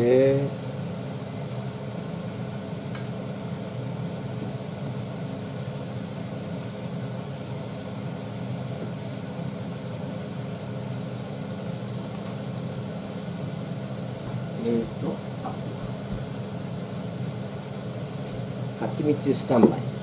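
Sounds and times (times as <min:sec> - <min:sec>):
kitchen appliances humming: 0:00.0 - 0:20.0.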